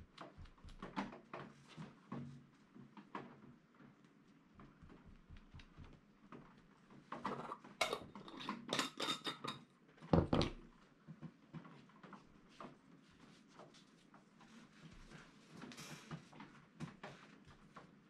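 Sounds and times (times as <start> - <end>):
handling taps and rustles: 0.0 - 18.0.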